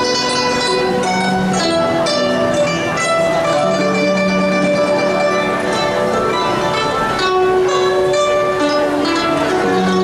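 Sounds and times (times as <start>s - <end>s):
plucked zither ensemble: 0.0s - 10.0s.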